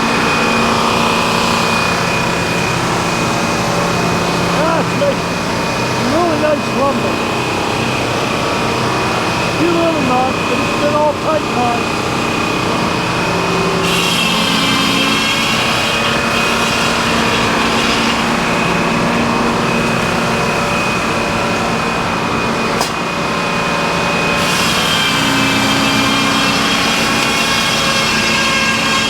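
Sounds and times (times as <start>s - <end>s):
sawmill saw cutting log: 0.0s - 29.0s.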